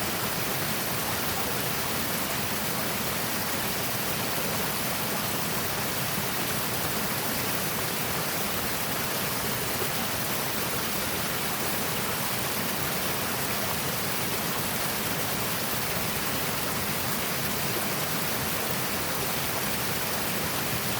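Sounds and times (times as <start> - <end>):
creek running over rocks: 0.0 - 20.9.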